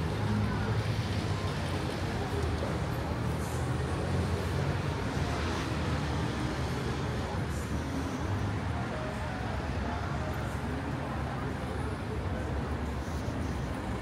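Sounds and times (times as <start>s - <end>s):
faint voices of passers-by: 0.0s - 14.0s
road traffic hum: 0.0s - 14.0s.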